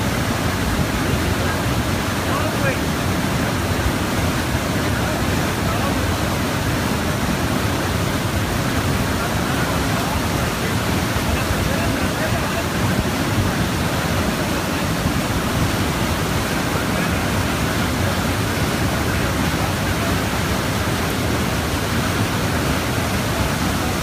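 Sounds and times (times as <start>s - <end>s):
water rushing through turbine: 0.0s - 24.0s.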